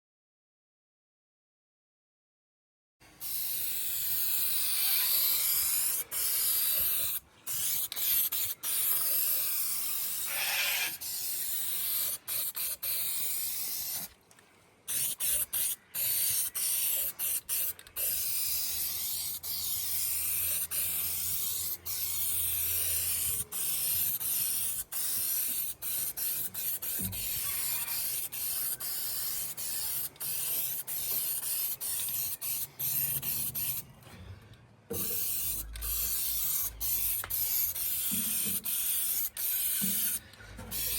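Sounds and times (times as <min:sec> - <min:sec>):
spray paint hissing: 0:03.2 - 0:14.1, 0:14.9 - 0:33.8, 0:35.0 - 0:40.9.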